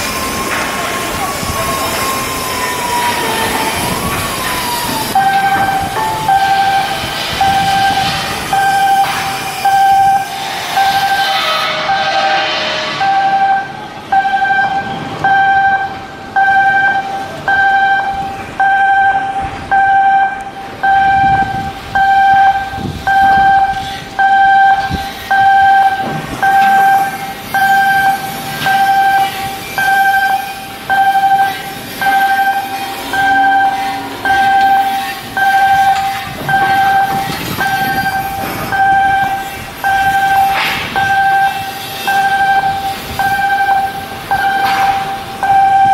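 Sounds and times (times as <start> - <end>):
electronic alarm beeping: 1.4 - 45.9.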